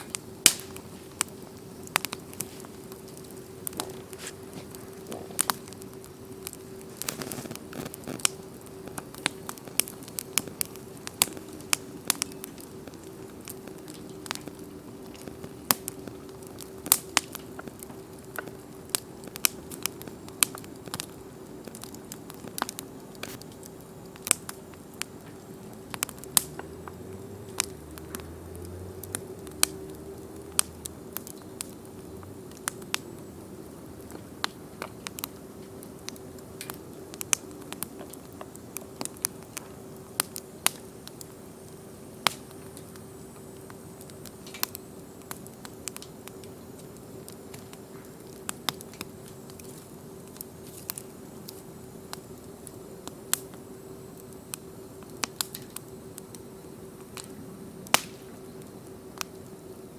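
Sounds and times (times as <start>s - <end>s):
bonfire crackling and popping: 0.0s - 59.9s
faint steady hum: 0.0s - 59.9s.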